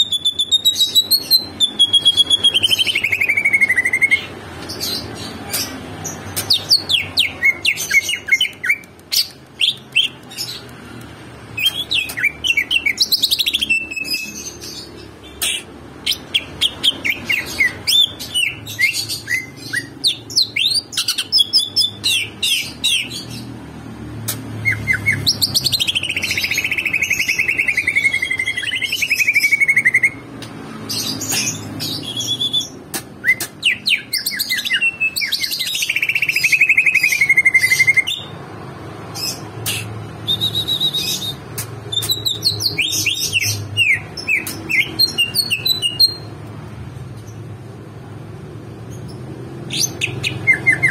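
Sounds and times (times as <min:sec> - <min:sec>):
bird chirping: 0:00.0 - 0:23.6, 0:24.5 - 0:38.4, 0:39.1 - 0:47.5, 0:48.8 - 0:50.9.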